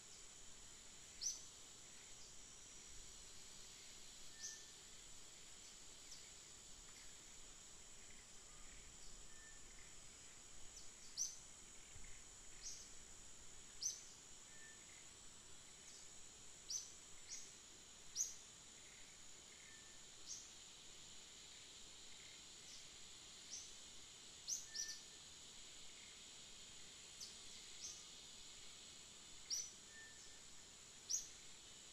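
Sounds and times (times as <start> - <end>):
high-pitched insect buzz: 0.0 - 31.9.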